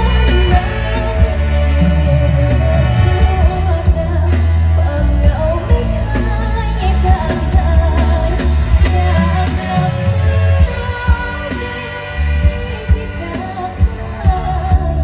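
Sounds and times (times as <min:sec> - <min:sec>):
heavy bass: 0:00.0 - 0:15.0
steady drum beat: 0:00.0 - 0:15.0.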